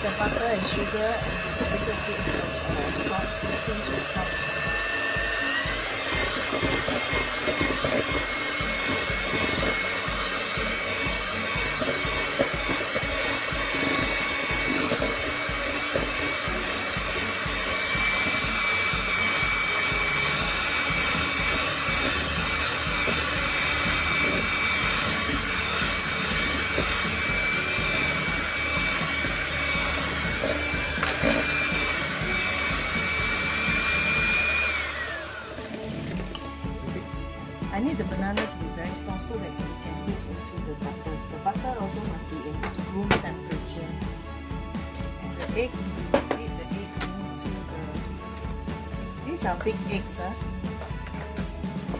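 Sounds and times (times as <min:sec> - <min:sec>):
electric mixer whining: 0:00.0 - 0:51.9.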